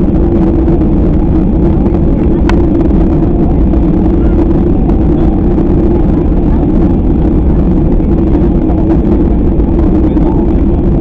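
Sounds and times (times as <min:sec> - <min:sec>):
airliner cabin jet engine rumble: 0:00.0 - 0:11.0.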